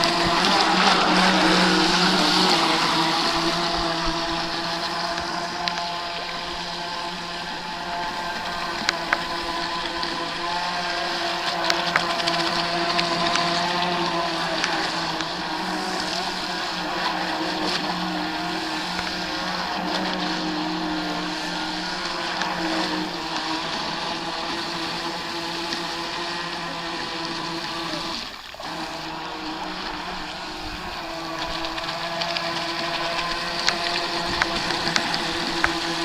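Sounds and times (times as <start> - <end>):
electric motor whine: 0.0 - 36.0
water hiss: 0.0 - 36.0.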